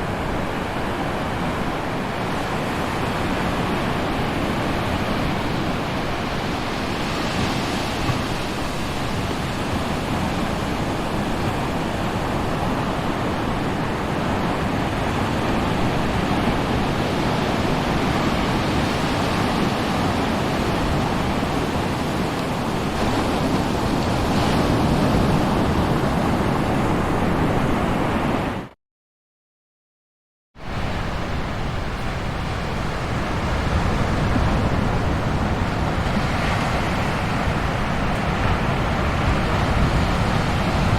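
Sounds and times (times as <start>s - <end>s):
ocean surf breaking waves: 0.0s - 28.8s, 30.6s - 40.9s.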